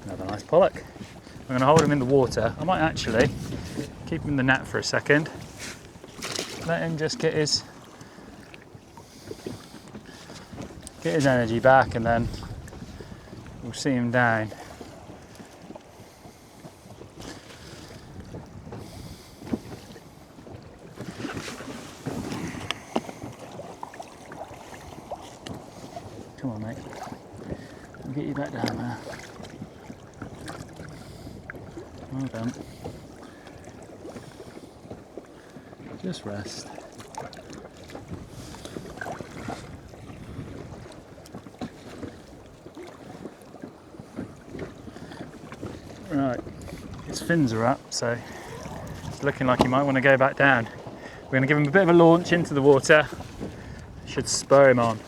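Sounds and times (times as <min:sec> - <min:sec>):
water lapping against boat: 0:00.0 - 0:55.0
wind buffeting microphone: 0:00.0 - 0:55.0.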